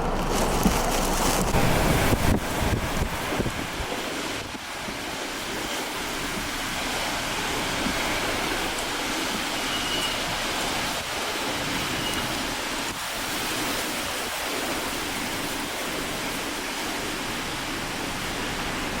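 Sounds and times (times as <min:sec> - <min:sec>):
wind buffeting microphone: 0:00.0 - 0:18.3
heavy rain and wind: 0:00.0 - 0:19.0.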